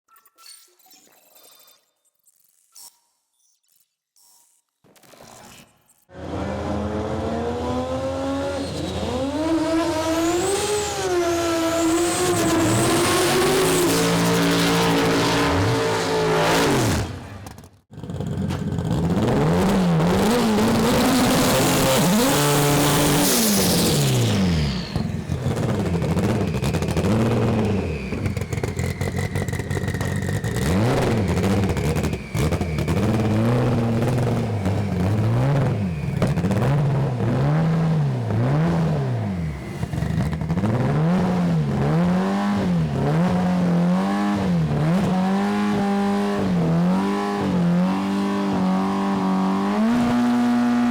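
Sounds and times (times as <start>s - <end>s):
race car engines revving: 6.1s - 50.9s.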